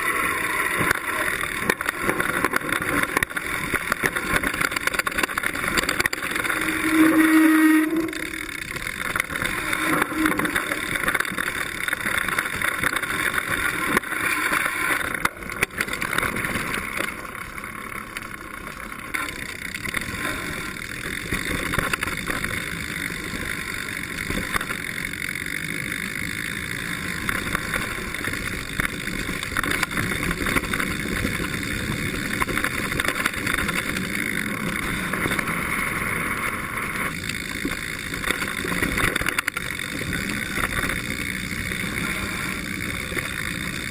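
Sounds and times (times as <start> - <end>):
bike rattling over rough ground: 0.0 - 43.9.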